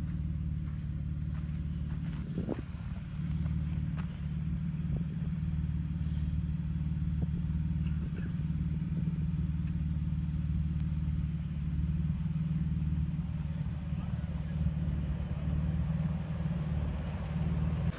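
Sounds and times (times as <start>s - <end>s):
vehicle engine droning: 0.0s - 17.9s.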